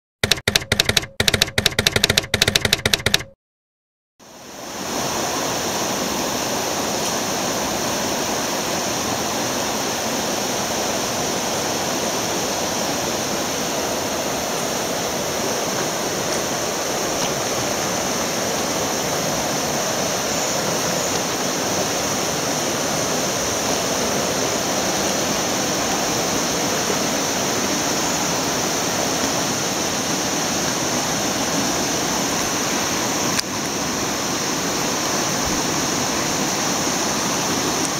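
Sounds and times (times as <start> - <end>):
river water rushing: 4.2 - 37.9.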